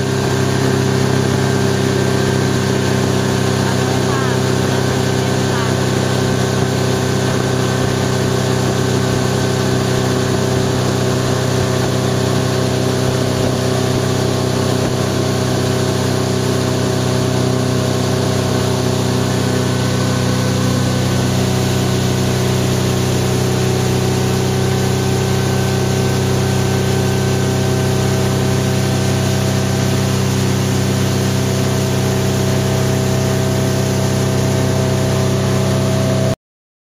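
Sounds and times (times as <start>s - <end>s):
speedboat engine running: 0.0s - 36.4s.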